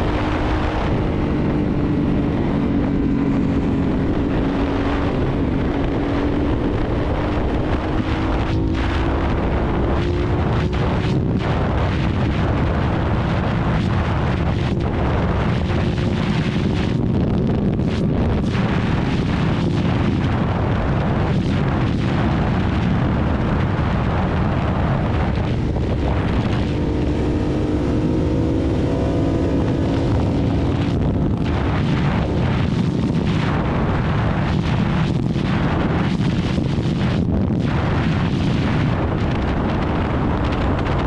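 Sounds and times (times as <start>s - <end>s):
motorcycle engine running: 0.0s - 41.0s
wind rush on microphone: 0.0s - 41.0s.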